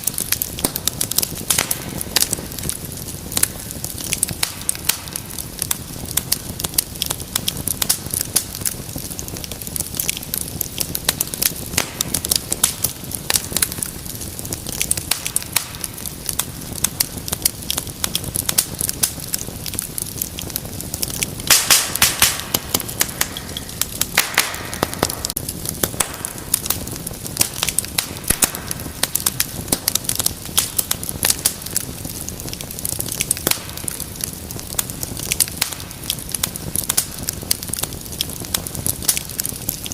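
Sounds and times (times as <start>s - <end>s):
fire crackling and popping: 0.0s - 39.9s
fire hiss: 0.0s - 39.9s
low rumble of flames: 0.0s - 39.9s.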